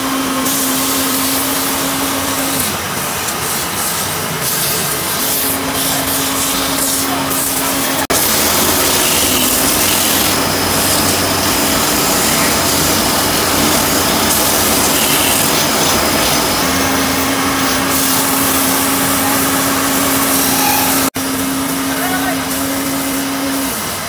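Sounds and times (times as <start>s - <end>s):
lathe motor hum: 0.0s - 24.0s
sandpaper hissing on spinning wood: 0.3s - 24.0s.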